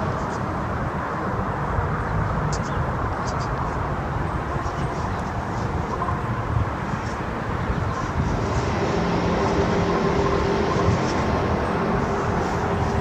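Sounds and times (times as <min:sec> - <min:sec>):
low droning rumble: 0:00.0 - 0:13.0.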